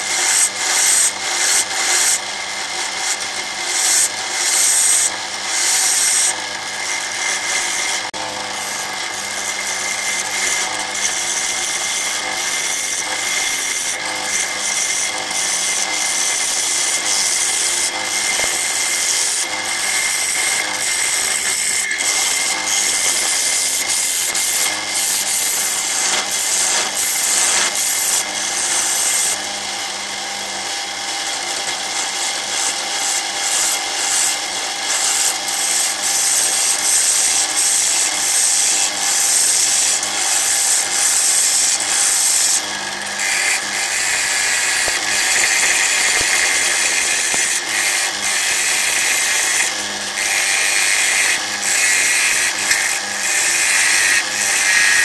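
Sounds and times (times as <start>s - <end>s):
gouge cutting spinning wood: 0.0s - 55.0s
lathe motor humming: 0.1s - 30.2s, 30.9s - 55.0s.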